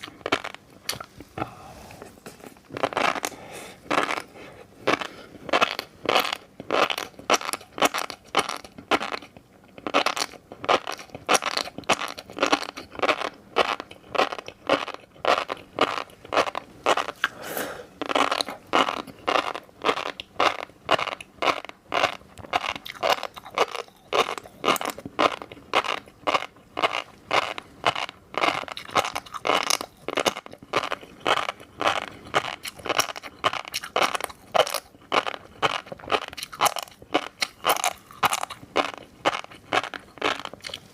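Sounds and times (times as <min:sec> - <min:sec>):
fish roe being chewed: 0:00.0 - 0:40.9.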